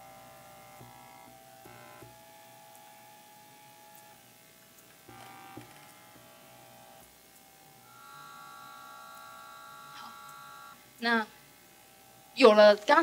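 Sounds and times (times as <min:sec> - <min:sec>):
electrical hum and whine: 0:00.0 - 0:13.0.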